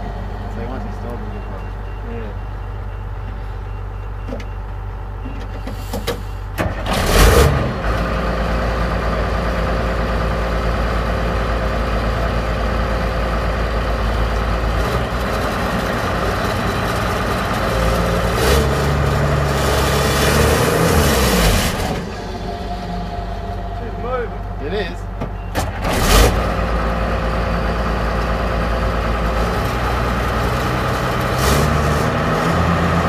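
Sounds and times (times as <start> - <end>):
tractor diesel engine droning: 0.0 - 33.0.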